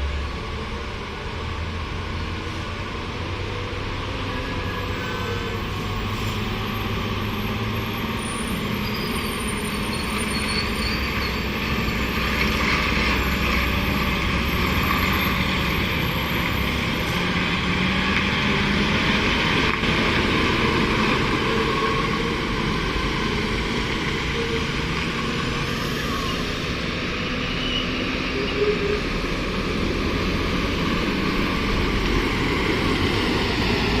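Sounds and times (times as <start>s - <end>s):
tyre and road noise: 0.0s - 34.0s.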